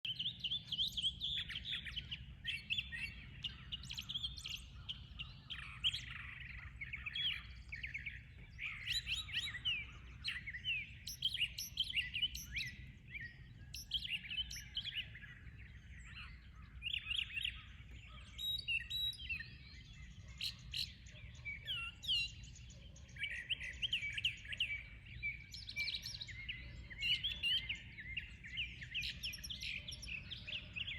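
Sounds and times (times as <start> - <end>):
songbirds chirping: 0.0 - 30.9.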